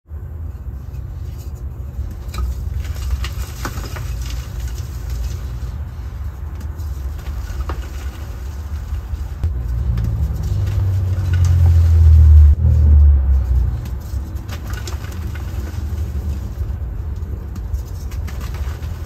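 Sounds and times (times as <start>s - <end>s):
low background rumble: 0.1s - 19.0s.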